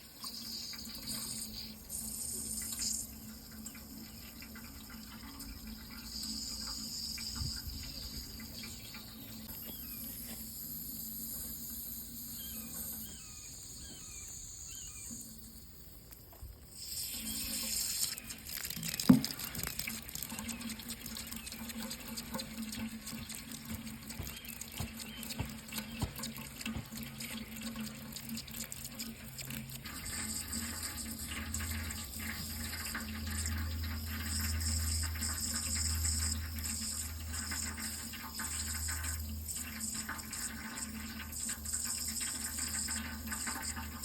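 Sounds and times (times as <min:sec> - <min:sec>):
water running in a stream: 0:00.0 - 0:44.0.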